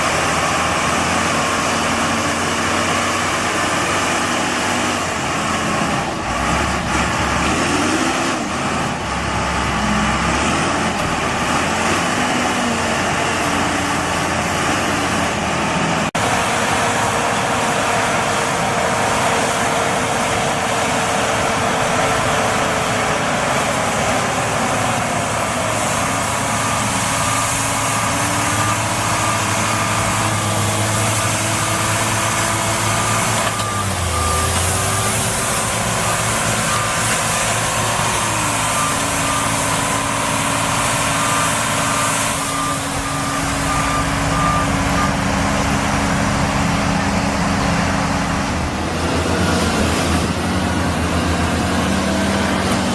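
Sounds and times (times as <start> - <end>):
tractor engine running hard: 0.0 - 52.9.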